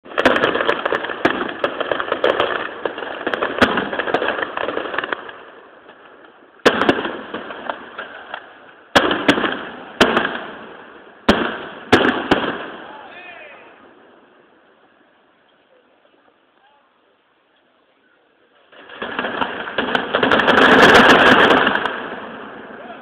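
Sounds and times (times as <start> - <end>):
firework bangs: 0.0 - 14.7, 18.6 - 23.0
fireworks crackling pops: 0.0 - 16.8, 18.5 - 23.0.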